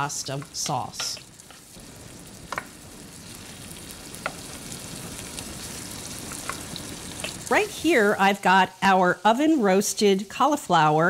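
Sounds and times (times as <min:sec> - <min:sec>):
tomatoes sizzling in butter: 0:00.0 - 0:11.0.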